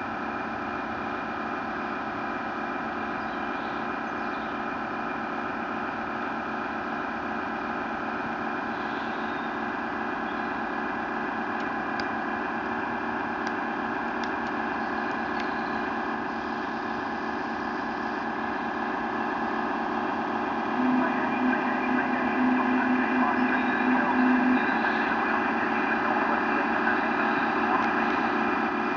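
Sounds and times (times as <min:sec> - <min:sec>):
crane pulsing whine: 0:00.0 - 0:28.9.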